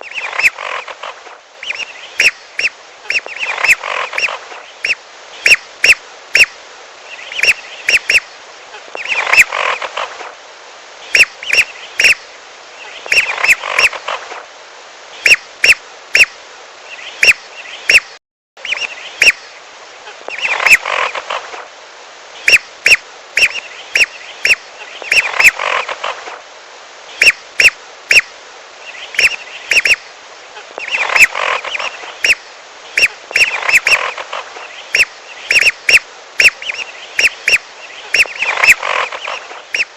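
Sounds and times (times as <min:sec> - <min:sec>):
whistling ducks calling: 0:00.0 - 0:08.3, 0:08.9 - 0:10.1, 0:11.1 - 0:12.2, 0:12.8 - 0:14.1, 0:15.2 - 0:16.3, 0:16.9 - 0:19.5, 0:20.3 - 0:21.4, 0:22.4 - 0:26.1, 0:27.2 - 0:39.9.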